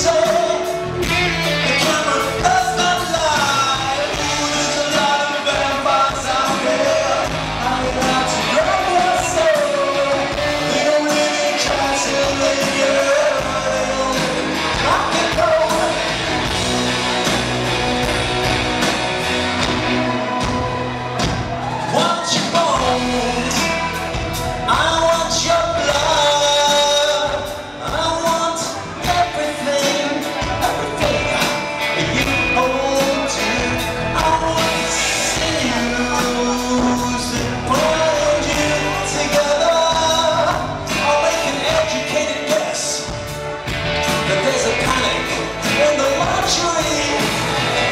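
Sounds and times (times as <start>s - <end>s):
man singing lead vocal: 0.0s - 17.4s, 21.6s - 47.9s
live rock band: 0.0s - 47.9s.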